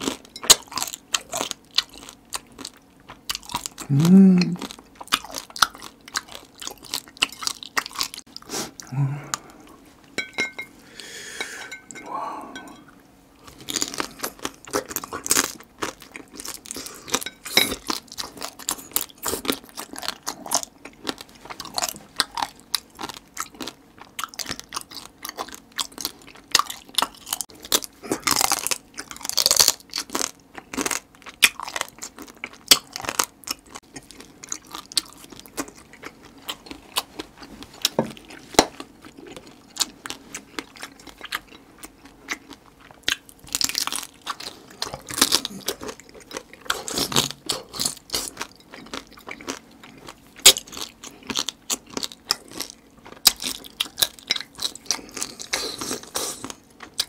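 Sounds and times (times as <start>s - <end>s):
wet chewing and crunching: 0.0s - 10.7s, 13.4s - 57.0s.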